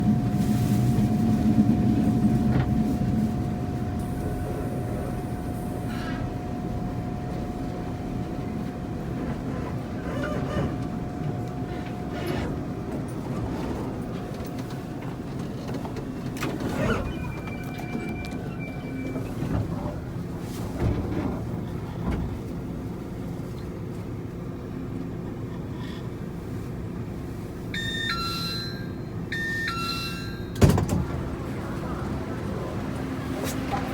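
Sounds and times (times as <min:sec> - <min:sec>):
train rumbling: 0:00.0 - 0:33.9.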